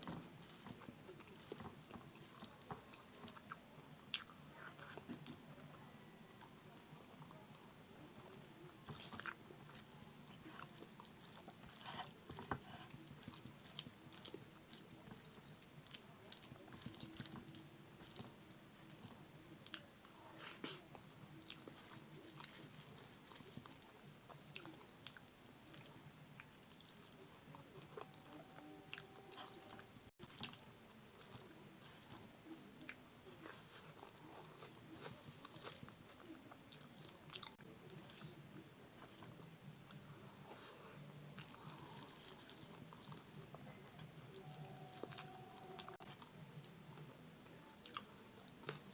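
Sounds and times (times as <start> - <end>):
person chewing and mouth smacking: 0.0 - 5.4, 7.2 - 40.7, 41.3 - 47.2, 47.8 - 48.9.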